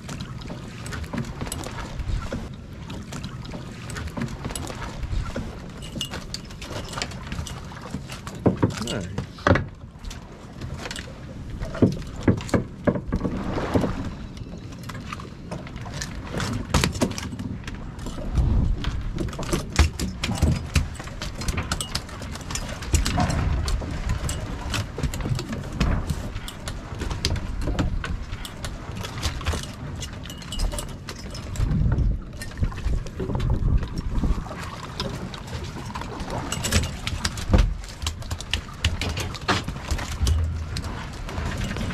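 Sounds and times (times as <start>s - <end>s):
boat engine rumbling: 0.0s - 41.9s
hooks and line rattling: 0.1s - 9.6s, 15.8s - 34.0s, 34.8s - 41.9s.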